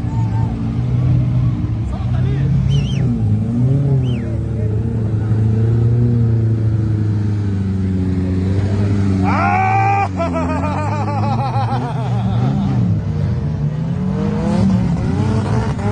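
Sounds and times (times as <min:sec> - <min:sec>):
off-road engine running: 0:00.0 - 0:15.9.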